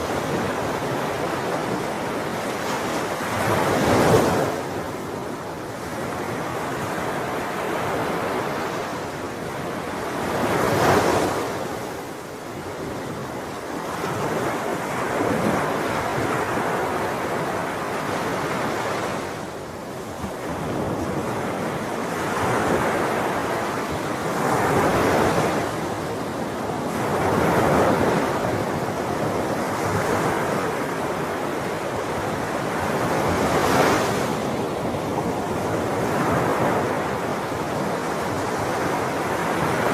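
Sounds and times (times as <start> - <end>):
sea waves breaking on shore: 0.0 - 39.9
wind: 0.0 - 39.9.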